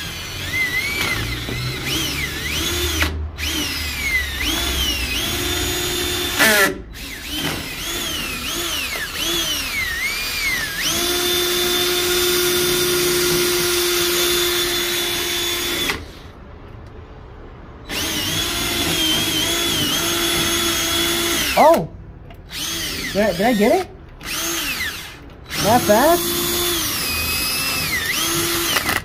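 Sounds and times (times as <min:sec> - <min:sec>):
cordless drill whining: 0:00.0 - 0:16.4, 0:17.9 - 0:29.0.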